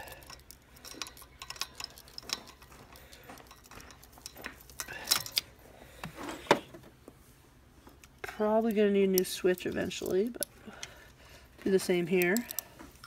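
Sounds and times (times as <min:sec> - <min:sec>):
small metallic clicks: 0:00.0 - 0:05.6, 0:07.9 - 0:13.0.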